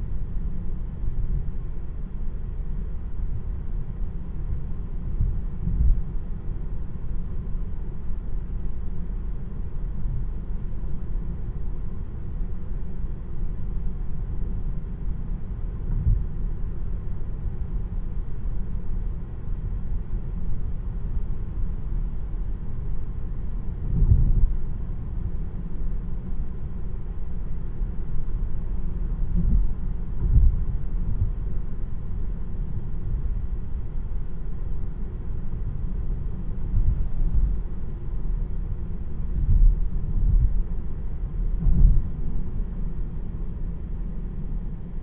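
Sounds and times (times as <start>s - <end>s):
road and tyre rumble in car: 0.0s - 45.0s.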